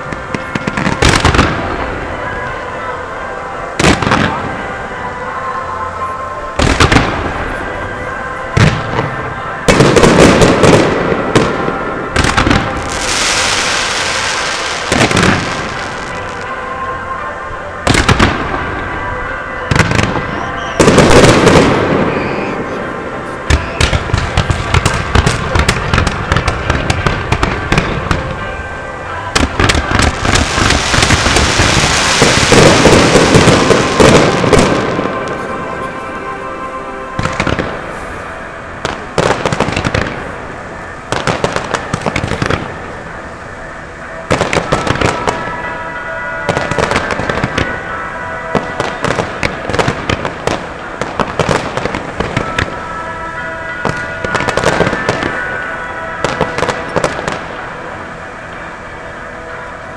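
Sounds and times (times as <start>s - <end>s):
fireworks bursting and crackling: 0.0s - 2.6s, 3.2s - 4.8s, 5.4s - 17.2s, 17.8s - 36.5s, 37.2s - 58.0s
music: 0.0s - 59.9s.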